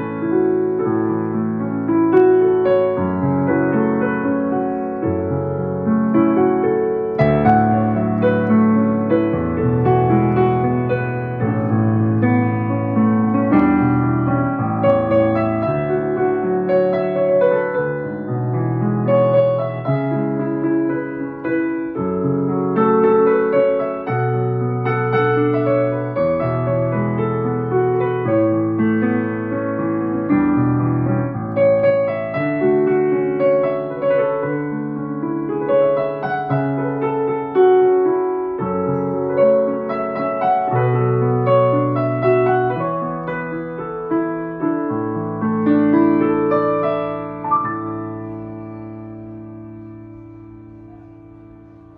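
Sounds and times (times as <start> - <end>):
piano piece: 0.0 - 51.9.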